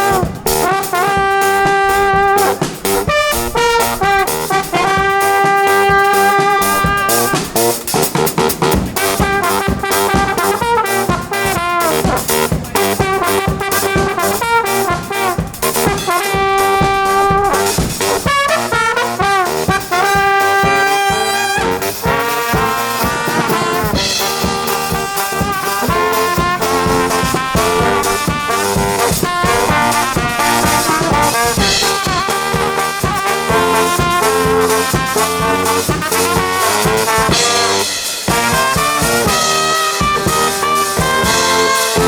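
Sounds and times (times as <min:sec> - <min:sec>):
steady drum beat: 0:00.0 - 0:42.0
trombones and trumpets playing: 0:00.0 - 0:42.0.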